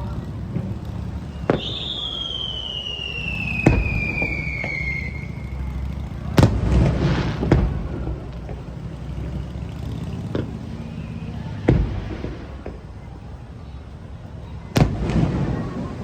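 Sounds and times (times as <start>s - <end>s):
firework whistle: 0.0s - 13.3s
firework bangs: 0.0s - 16.0s
firework crackling: 0.0s - 16.0s.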